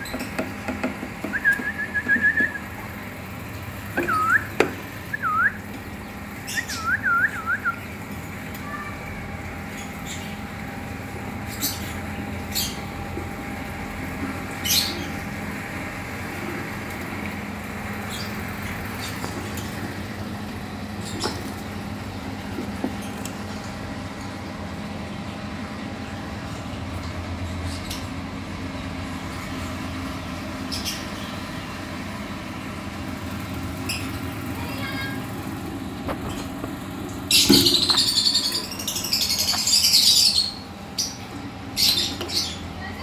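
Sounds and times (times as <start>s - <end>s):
birds giving high chirps: 0.0s - 16.1s, 17.4s - 32.3s, 33.2s - 35.6s, 36.2s - 43.0s.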